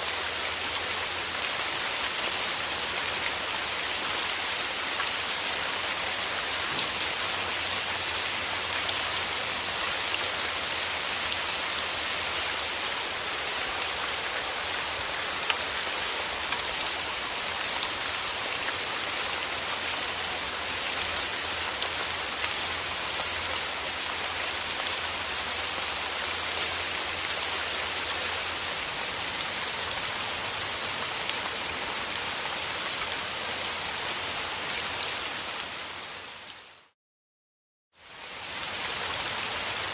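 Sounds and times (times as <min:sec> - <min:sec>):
steady rain falling: 0:00.0 - 0:37.0, 0:38.0 - 0:39.9.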